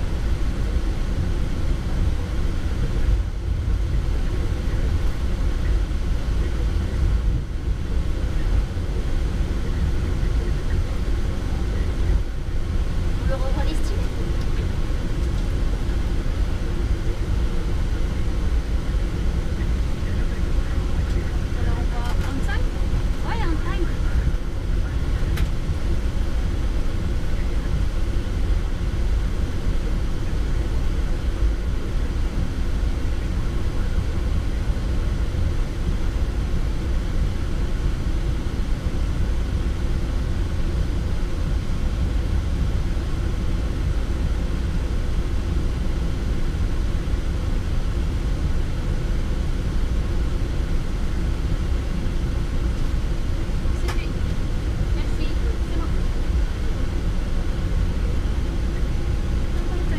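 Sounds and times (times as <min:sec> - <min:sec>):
airplane taxiing rumble: 0:00.0 - 0:59.9.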